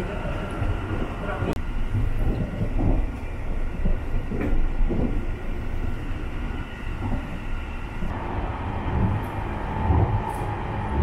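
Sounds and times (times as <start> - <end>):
train interior low rumble: 0.0 - 11.0.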